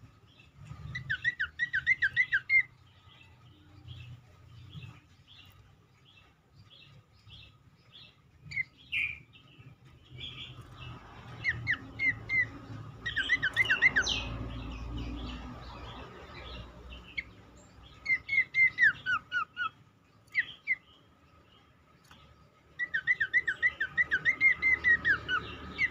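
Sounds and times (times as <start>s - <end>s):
faint bird chirps: 0.0s - 25.9s.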